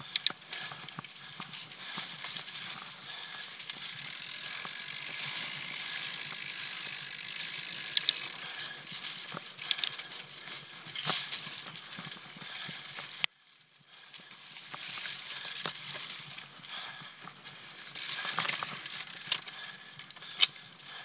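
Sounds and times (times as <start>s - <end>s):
bicycle freehub ratcheting: 0.0s - 10.3s, 10.9s - 13.2s, 14.4s - 16.5s, 17.8s - 20.6s
tyre and trail noise: 0.0s - 21.0s.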